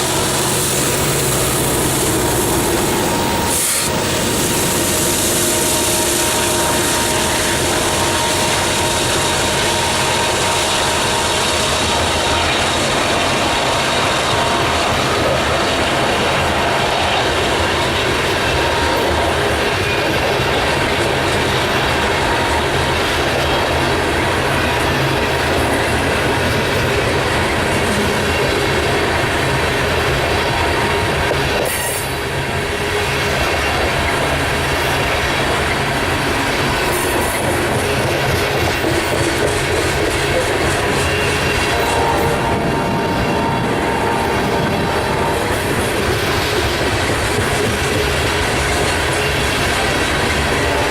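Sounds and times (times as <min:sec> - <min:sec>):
train wheels rumbling on rails: 0:00.0 - 0:50.9
clickety-clack over rail joints: 0:07.0 - 0:50.9.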